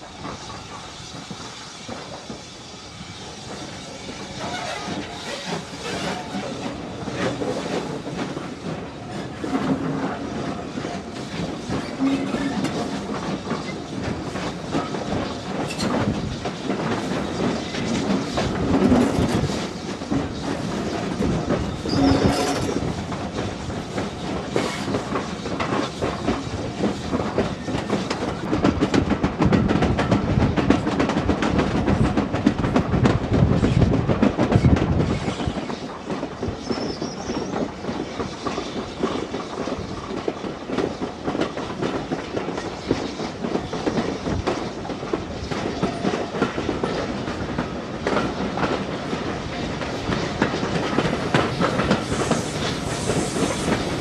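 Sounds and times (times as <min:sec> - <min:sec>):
steam locomotive running: 0:00.0 - 0:54.0.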